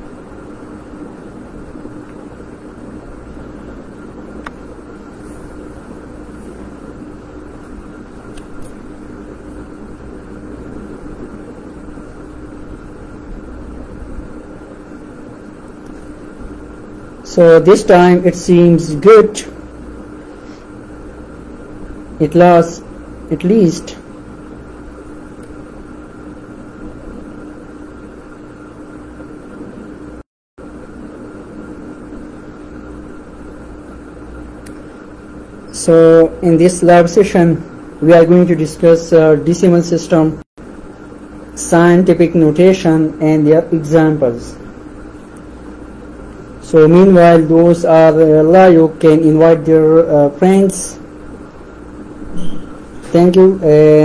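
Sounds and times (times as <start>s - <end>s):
background hum and hiss: 0.0s - 54.0s.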